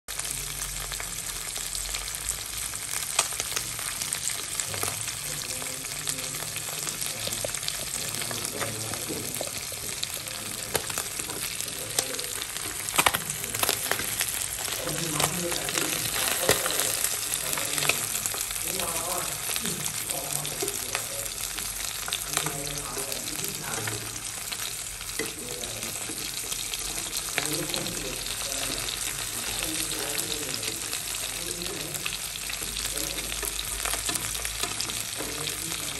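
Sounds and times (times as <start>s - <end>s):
fish frying in oil: 0.1s - 35.9s.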